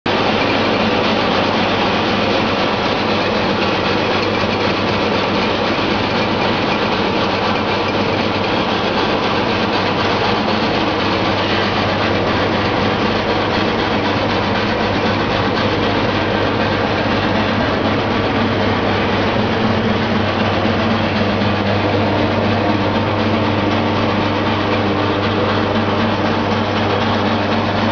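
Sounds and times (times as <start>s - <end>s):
low motor hum: 0.2s - 27.9s.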